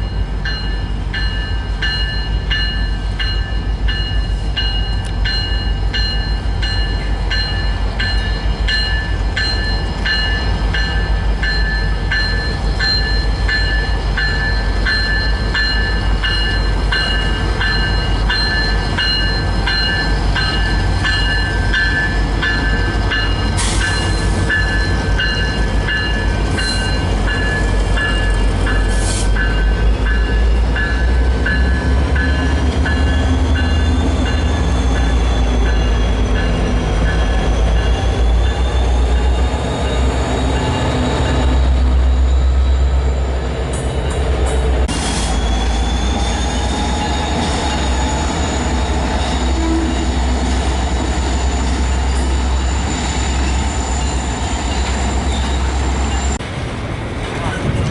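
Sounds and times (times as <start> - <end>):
train wheels squealing: 0.0 - 56.4
train rumbling: 0.0 - 57.9.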